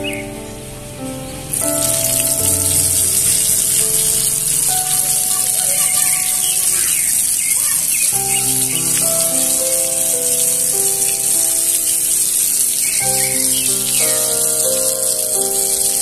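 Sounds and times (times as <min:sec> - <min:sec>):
instrumental music: 0:00.0 - 0:16.0
oil sizzling: 0:01.4 - 0:16.0.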